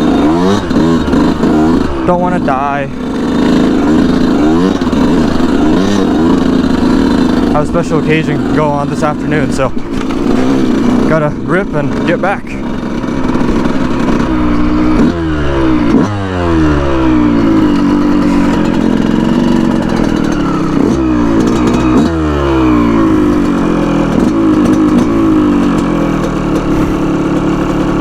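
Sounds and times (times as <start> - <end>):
two-stroke motorcycle engine revving: 0.0 - 28.0.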